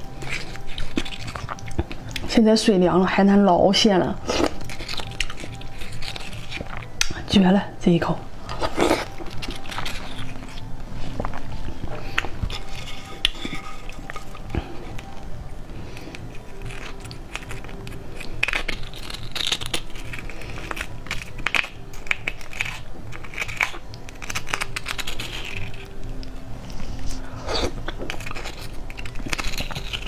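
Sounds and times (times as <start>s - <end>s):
spoon scraping sea urchin shell: 0.0s - 7.0s, 8.4s - 30.0s.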